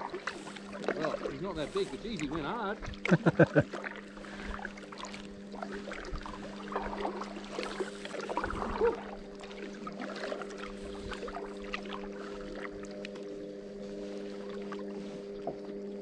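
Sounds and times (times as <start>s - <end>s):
kayak paddle splashing: 0.0s - 16.0s
steady low hum: 0.0s - 16.0s.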